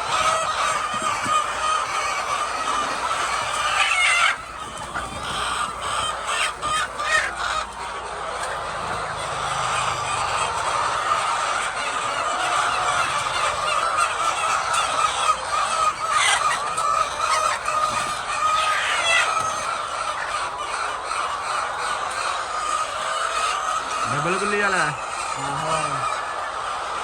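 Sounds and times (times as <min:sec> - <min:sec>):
hens calling: 0:00.0 - 0:27.0.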